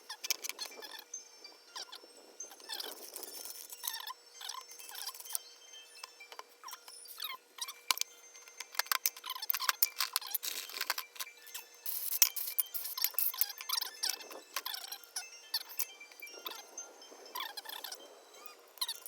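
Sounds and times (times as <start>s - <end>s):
faint steady hum: 0.0s - 19.0s
metal parts and tools clinking: 0.1s - 1.2s, 1.8s - 19.0s.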